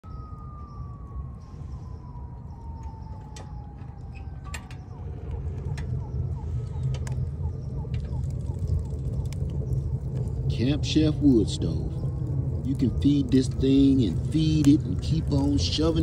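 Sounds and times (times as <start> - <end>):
wood fire rumbling and crackling: 0.0 - 16.0.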